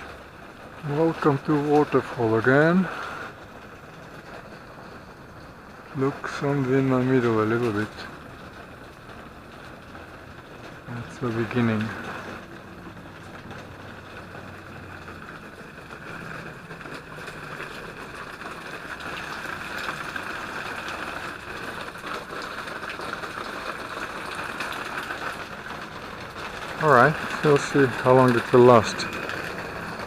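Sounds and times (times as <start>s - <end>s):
small waterfall falling: 0.0s - 30.0s
water drips spattering: 3.4s - 30.0s.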